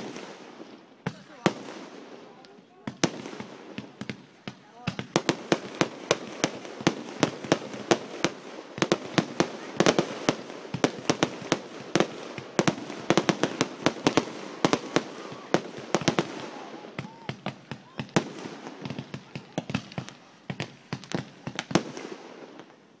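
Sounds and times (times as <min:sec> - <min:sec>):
fireworks bangs: 0:00.0 - 0:22.8.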